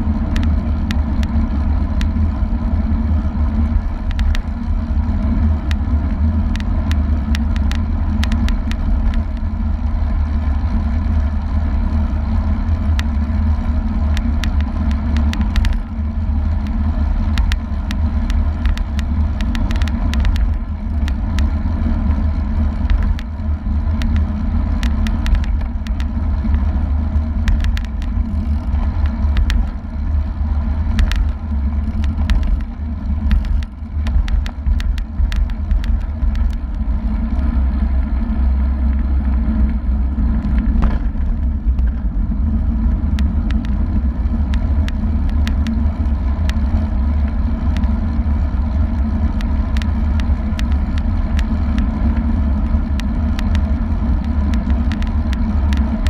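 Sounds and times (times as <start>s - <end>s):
bike clicks and rattles: 0.0s - 56.0s
tyre and road noise: 0.0s - 56.0s.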